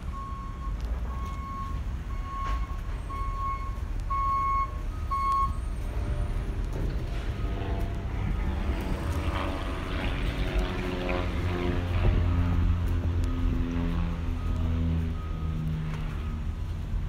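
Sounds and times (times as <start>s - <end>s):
reversing alarm beeping: 0.0s - 9.6s, 11.0s - 16.7s
low rumble: 0.0s - 17.0s.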